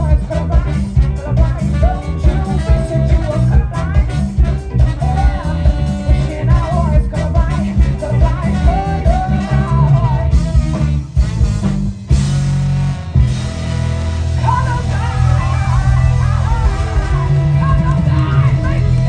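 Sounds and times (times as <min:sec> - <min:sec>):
live band playing: 0:00.0 - 0:19.0
wavering melodic lead line: 0:00.0 - 0:19.0.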